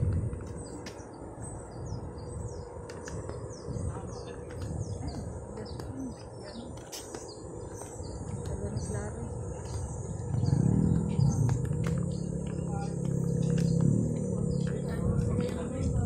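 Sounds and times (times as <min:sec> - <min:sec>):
low rumble: 0:00.0 - 0:16.0
small birds chirping: 0:00.0 - 0:16.0.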